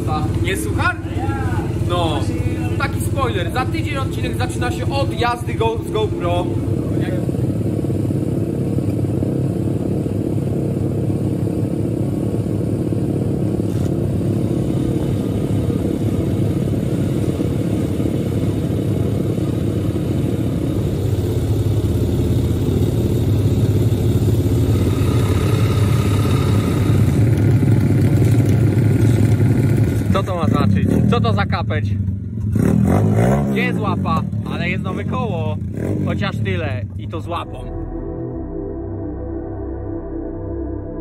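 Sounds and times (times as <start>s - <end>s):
motorbike engines running: 0.0s - 38.0s.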